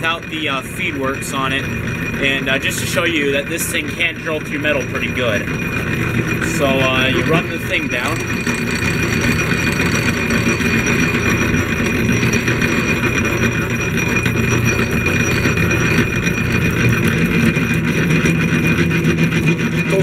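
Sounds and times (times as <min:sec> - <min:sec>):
drill bit cutting metal: 0:00.0 - 0:18.8
drill press humming and whining: 0:00.0 - 0:20.0.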